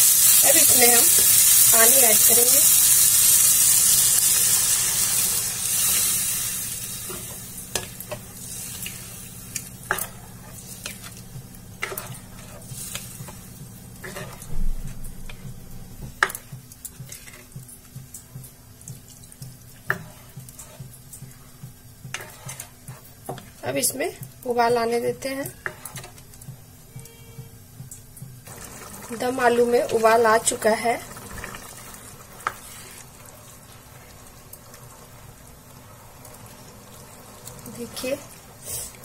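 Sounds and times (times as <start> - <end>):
water sizzling in hot pan: 0.0 - 26.8, 28.0 - 39.0
steady low hum: 5.3 - 39.0.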